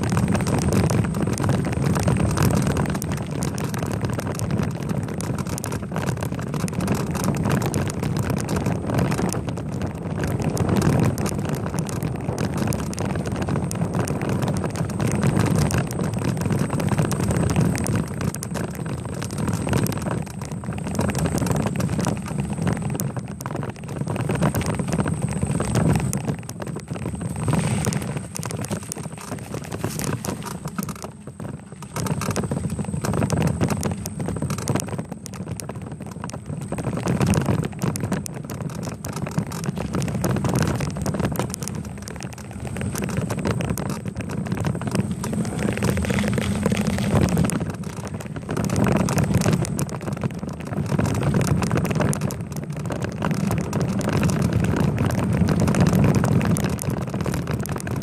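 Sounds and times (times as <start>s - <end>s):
bike rattling and ticking: 0.0s - 58.0s
wind rushing over microphone: 0.0s - 58.0s.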